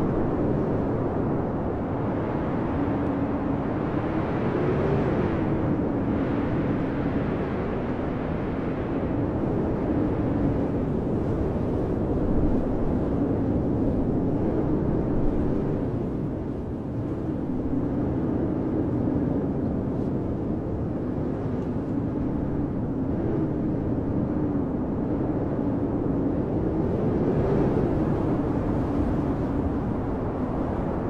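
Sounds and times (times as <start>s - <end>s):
blizzard wind howling: 0.0s - 31.0s.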